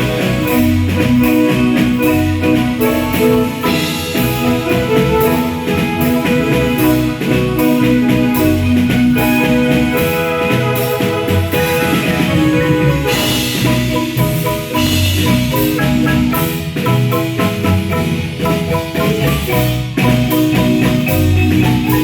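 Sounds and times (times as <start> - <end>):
marimba ensemble playing: 0.0 - 22.0
percussion keeping the beat: 0.0 - 22.0.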